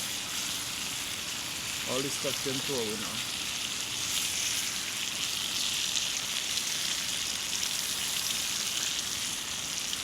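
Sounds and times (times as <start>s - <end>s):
fish sizzling in a pan: 0.0s - 10.0s.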